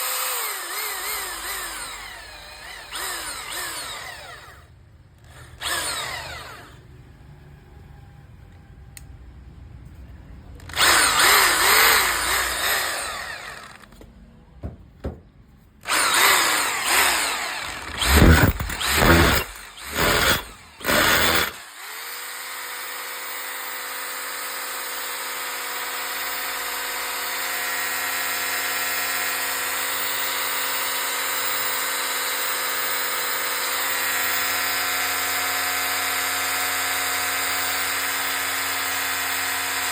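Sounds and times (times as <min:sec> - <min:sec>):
hammer drill motor running: 0:00.0 - 0:06.8, 0:10.7 - 0:13.9, 0:15.9 - 0:39.9.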